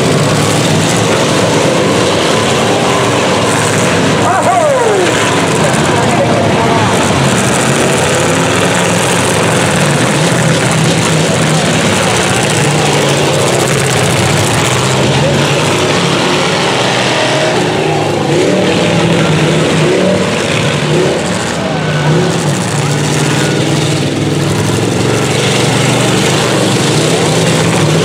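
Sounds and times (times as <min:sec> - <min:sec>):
loud engines revving: 0:00.0 - 0:28.0
voices: 0:00.0 - 0:28.0.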